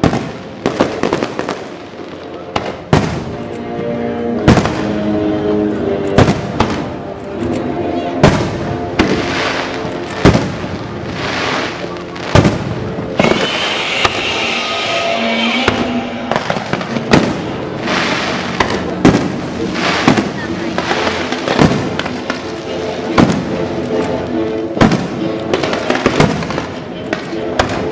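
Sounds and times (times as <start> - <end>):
fireworks bangs: 0.0 - 3.4, 4.4 - 5.1, 6.0 - 7.0, 8.2 - 27.9
fireworks crackling: 0.0 - 27.9.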